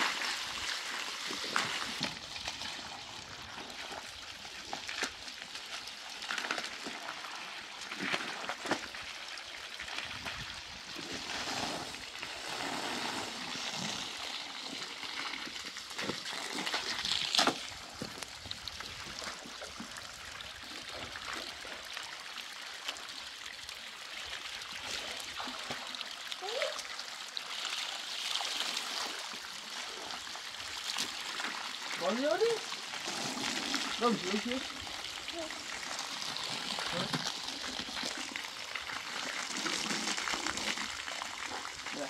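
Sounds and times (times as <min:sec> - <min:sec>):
water trickling and splashing: 0:00.0 - 0:42.0.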